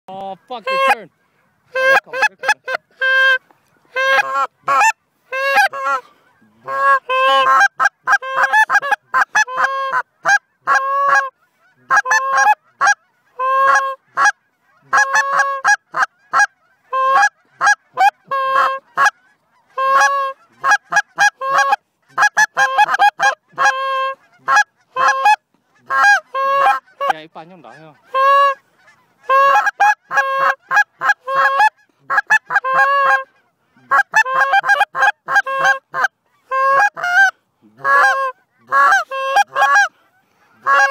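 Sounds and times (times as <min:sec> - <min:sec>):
goose call honks: 0:00.5 - 0:40.9.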